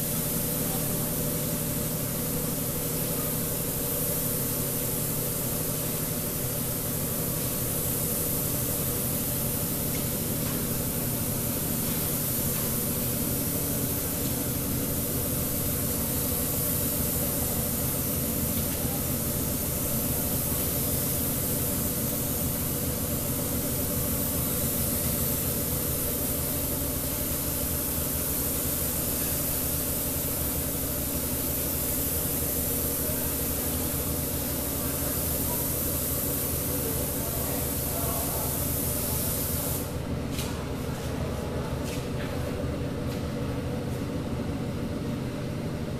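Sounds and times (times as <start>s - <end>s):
paint spray gun hissing: 0.0s - 40.0s.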